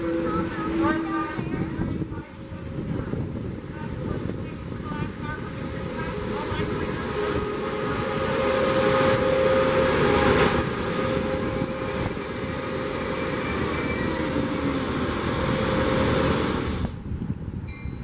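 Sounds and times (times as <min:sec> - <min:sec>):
diesel locomotive: 0:00.0 - 0:18.0
passenger train passing: 0:00.0 - 0:18.0.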